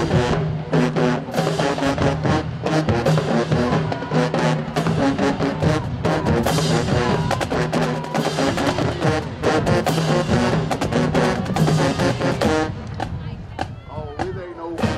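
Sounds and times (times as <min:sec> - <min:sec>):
busy drum beat: 0:00.0 - 0:14.9
marching band brass: 0:00.0 - 0:14.9.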